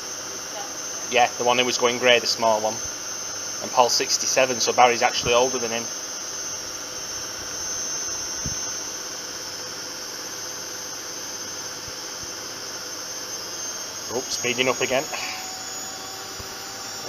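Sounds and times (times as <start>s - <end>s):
washing machine whirring: 0.0s - 17.0s.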